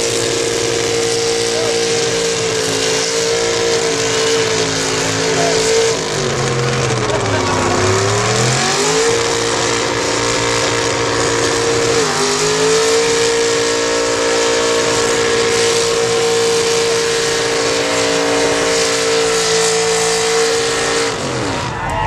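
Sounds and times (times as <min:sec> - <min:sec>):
tires spinning hiss: 0:00.0 - 0:21.7
truck engine at high revs: 0:00.0 - 0:22.0.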